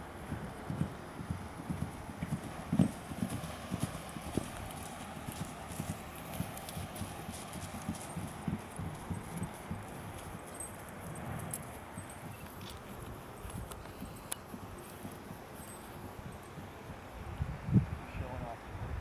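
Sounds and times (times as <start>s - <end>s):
hooves trotting on grass: 0.0s - 17.8s.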